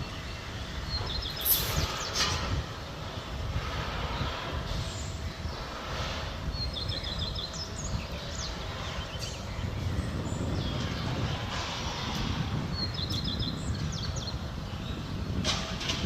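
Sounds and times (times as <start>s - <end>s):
low rumble of ambient noise: 0.0s - 16.0s.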